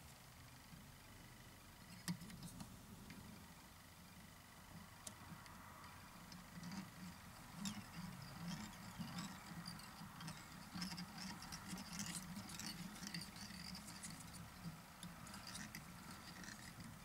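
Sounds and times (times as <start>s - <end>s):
faint scratches and clicks: 0.0s - 3.5s, 4.5s - 17.0s
low steady hum: 0.0s - 17.0s.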